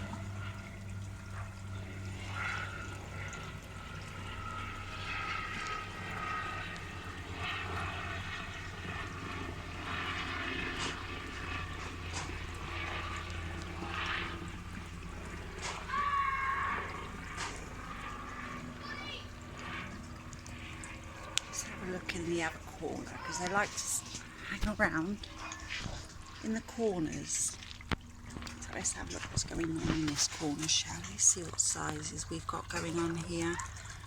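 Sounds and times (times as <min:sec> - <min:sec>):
steady low hum: 0:00.0 - 0:34.0
water trickling and splashing: 0:00.0 - 0:34.0.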